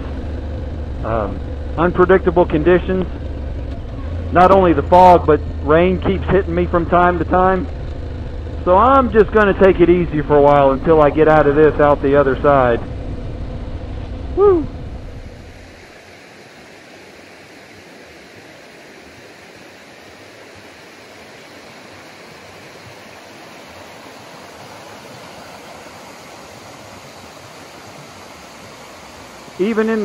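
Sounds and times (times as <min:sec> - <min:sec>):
creek rushing over rapids: 0:04.0 - 0:30.0.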